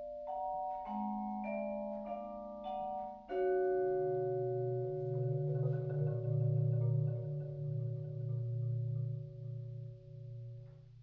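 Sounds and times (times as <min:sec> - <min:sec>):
vibraphone and marimba chords: 0:00.0 - 0:10.7.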